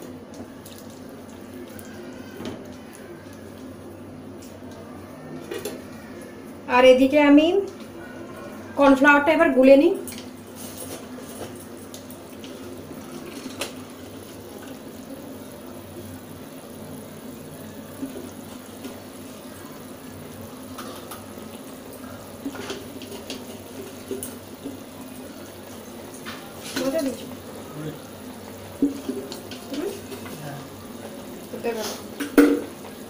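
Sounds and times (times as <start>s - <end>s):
sauce simmering and bubbling: 0.0s - 6.7s, 10.2s - 33.0s.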